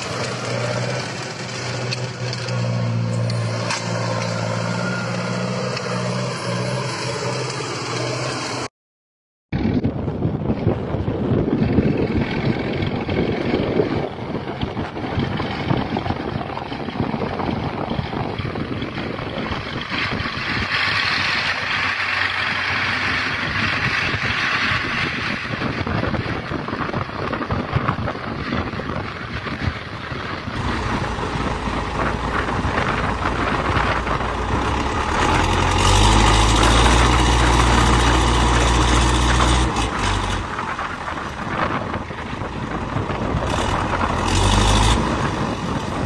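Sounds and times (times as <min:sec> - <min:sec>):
tractor diesel engine running: 0:00.0 - 0:08.7, 0:09.6 - 0:46.0.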